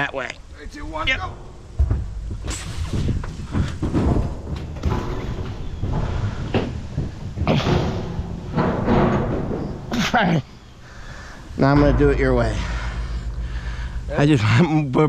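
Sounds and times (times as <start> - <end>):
heavy object thumping and scraping: 0.8 - 14.8.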